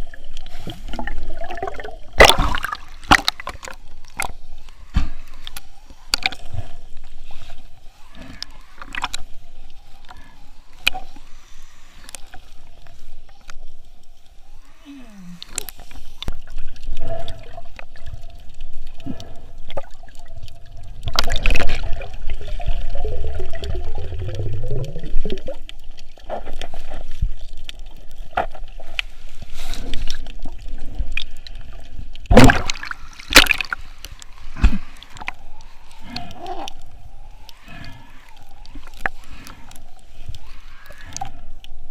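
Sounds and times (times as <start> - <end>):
water sloshing and gurgling: 0.0 - 41.9.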